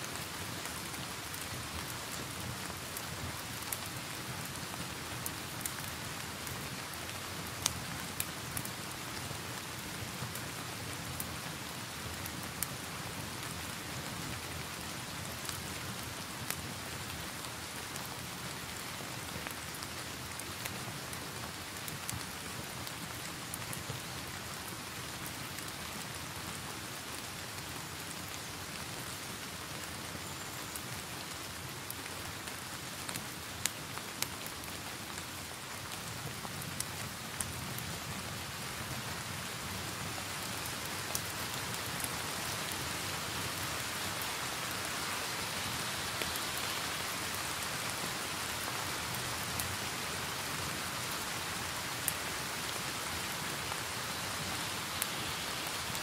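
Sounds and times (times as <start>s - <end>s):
crackling wood fire: 0.0s - 56.0s
steady rain: 0.0s - 56.0s.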